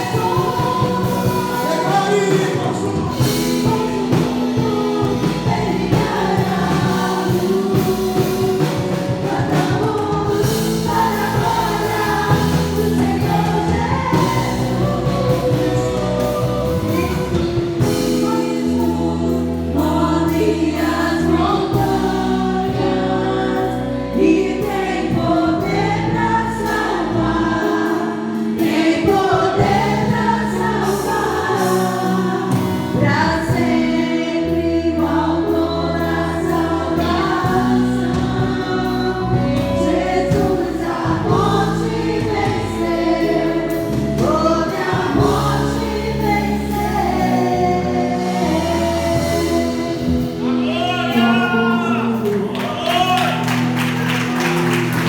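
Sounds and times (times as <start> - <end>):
group singing worship song: 0.0 - 55.0.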